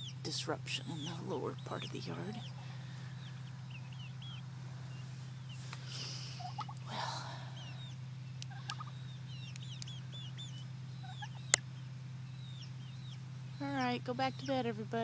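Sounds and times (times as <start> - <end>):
chicks peeping: 0.0 - 15.0
lower bird calls: 0.0 - 15.0
steady low hum: 0.0 - 15.0.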